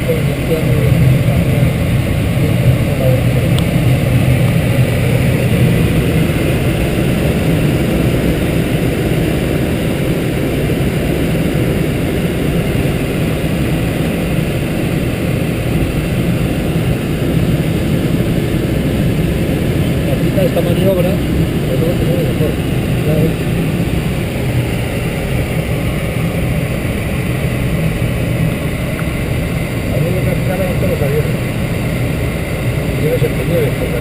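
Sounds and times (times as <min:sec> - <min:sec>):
aircraft engine drone in cockpit: 0:00.0 - 0:34.0.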